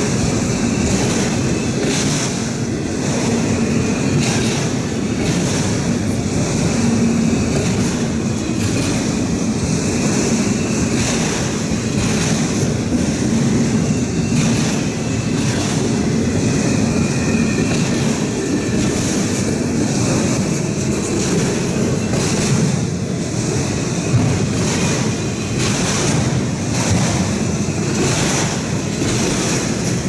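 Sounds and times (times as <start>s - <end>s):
freight train wheels rumbling: 0.0s - 30.0s
wheels clicking over rail joints: 0.8s - 16.2s, 17.6s - 23.0s, 24.1s - 30.0s.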